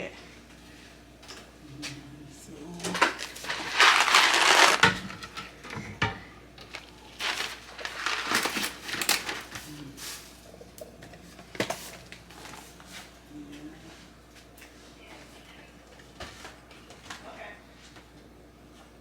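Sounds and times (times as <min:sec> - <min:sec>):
grocery items rustling and clattering: 0:02.6 - 0:18.0.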